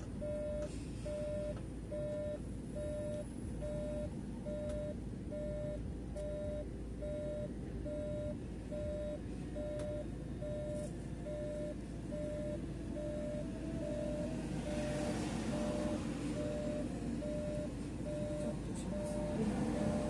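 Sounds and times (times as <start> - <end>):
bus engine rumble: 0.0 - 20.0
turn-signal indicator beeping: 0.2 - 20.0.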